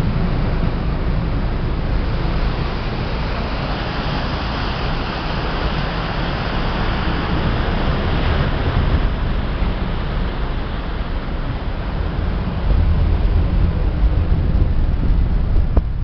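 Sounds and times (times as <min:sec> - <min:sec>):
boat wake churning: 0:00.0 - 0:16.0
wind rushing over microphone: 0:00.0 - 0:16.0.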